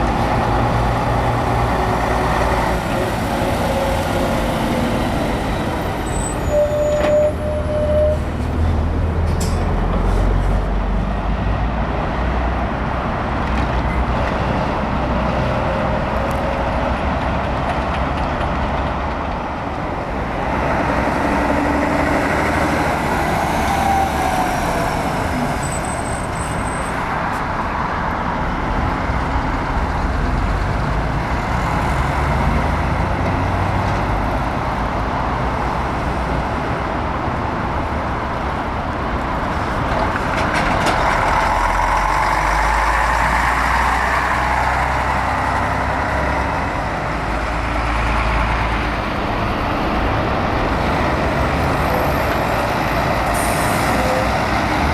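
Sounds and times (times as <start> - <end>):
diesel trucks driving past: 0.0 - 54.9.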